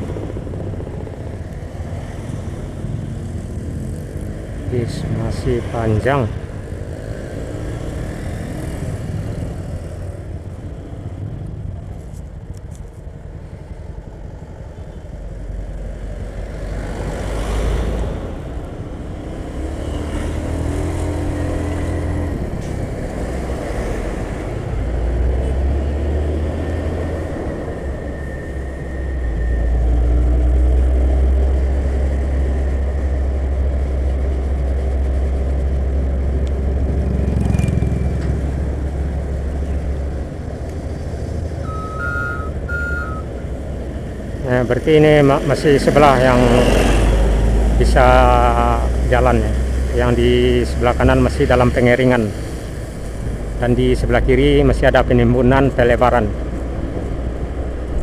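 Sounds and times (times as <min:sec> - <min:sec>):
engine drone of traffic: 0:00.0 - 0:58.0
road and wind noise: 0:00.0 - 0:58.0.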